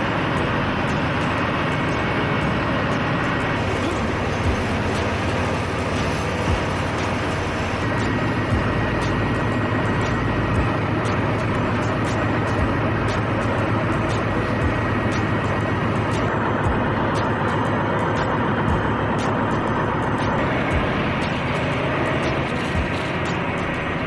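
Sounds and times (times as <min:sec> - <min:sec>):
engine room machinery noise: 0:00.0 - 0:24.0.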